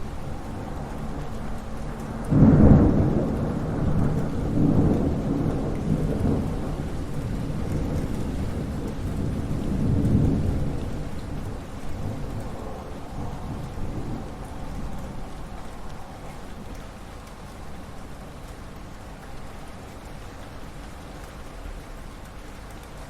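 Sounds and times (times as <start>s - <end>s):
thunder crack and rumble: 0.0s - 18.5s
steady rain: 0.0s - 23.0s.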